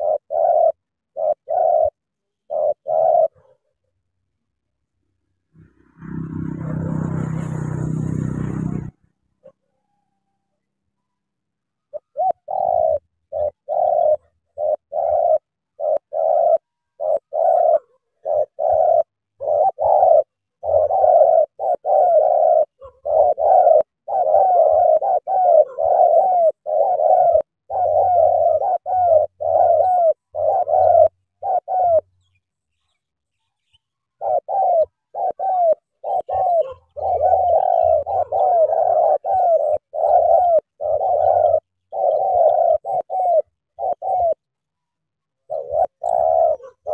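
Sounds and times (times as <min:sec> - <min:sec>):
dove cooing: 0:00.0 - 0:04.9, 0:05.6 - 0:10.7, 0:11.7 - 0:46.9.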